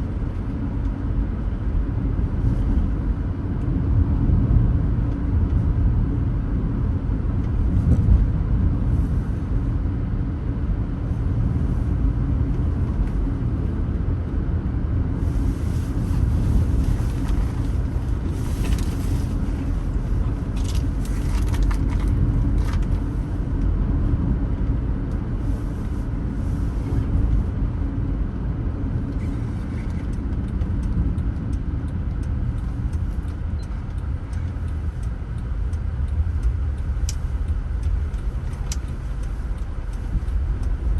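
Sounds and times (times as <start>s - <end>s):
car tyres and engine rumbling: 0.0s - 40.9s.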